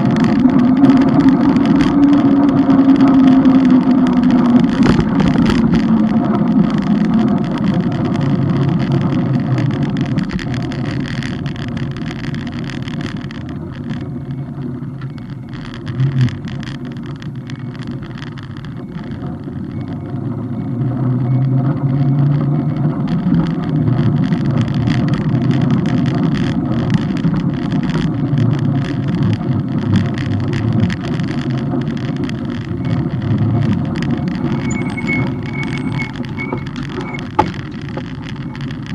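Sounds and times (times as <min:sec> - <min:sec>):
road and wind noise: 0:00.0 - 0:38.9
vehicle engine hum: 0:00.0 - 0:38.9.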